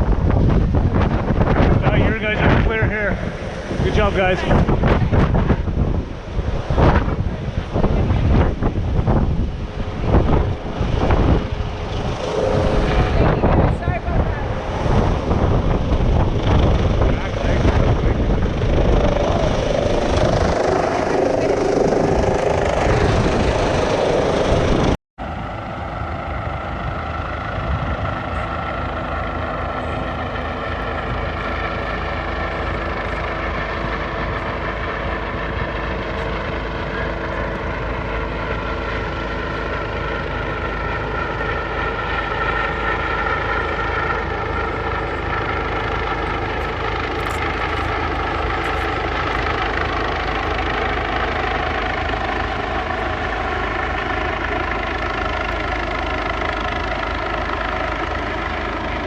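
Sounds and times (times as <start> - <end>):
helicopter turbine whine and rotor: 0.0 - 59.0.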